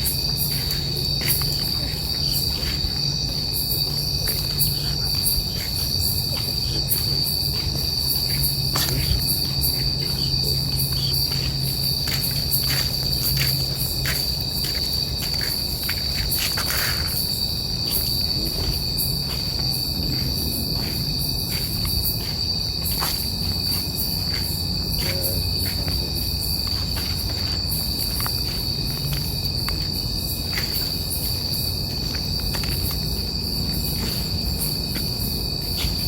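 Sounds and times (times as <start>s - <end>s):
crickets chirping: 0.0s - 36.0s
insects trilling: 0.0s - 36.0s.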